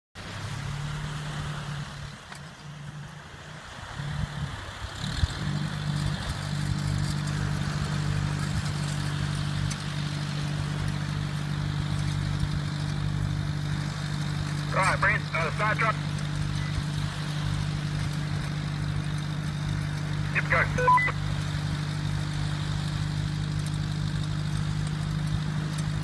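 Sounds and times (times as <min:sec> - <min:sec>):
truck engine revving under load: 0:00.2 - 0:26.0.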